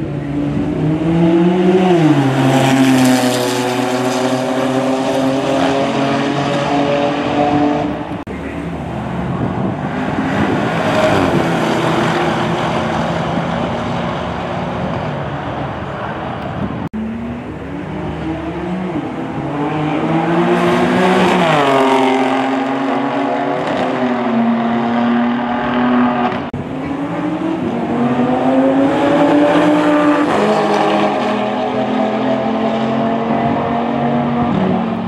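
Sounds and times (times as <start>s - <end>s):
car engines at full throttle: 0.0s - 35.0s.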